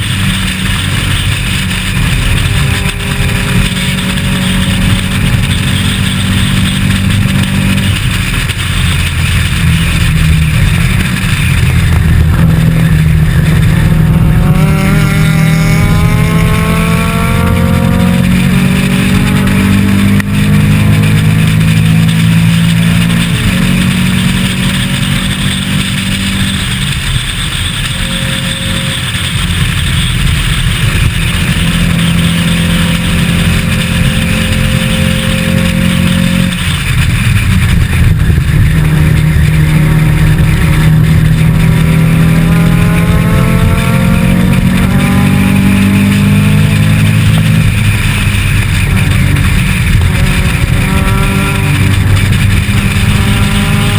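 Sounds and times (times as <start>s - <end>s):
racing car engine at high revs: 0.0s - 53.9s
road noise: 0.0s - 53.9s
wind noise: 0.0s - 53.9s.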